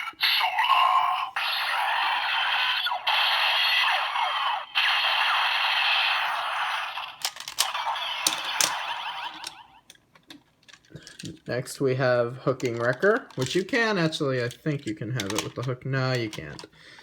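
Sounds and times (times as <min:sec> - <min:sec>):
toy speaker harsh crackling effect: 0:00.0 - 0:10.0, 0:12.5 - 0:16.6.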